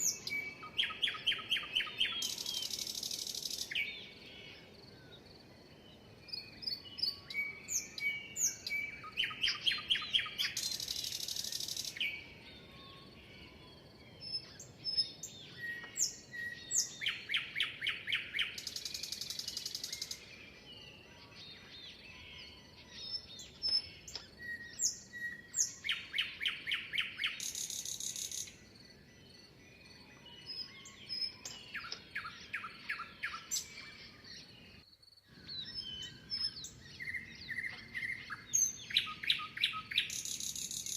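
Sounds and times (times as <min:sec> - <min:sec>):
bird song with buzzy trill: 0:00.0 - 0:04.7, 0:06.0 - 0:40.9
other birds chirping: 0:00.0 - 0:40.9.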